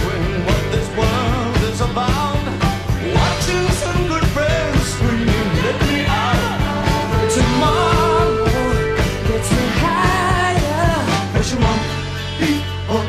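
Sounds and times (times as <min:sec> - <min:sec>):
person singing: 0:00.0 - 0:13.0
steady drum beat: 0:00.0 - 0:13.0.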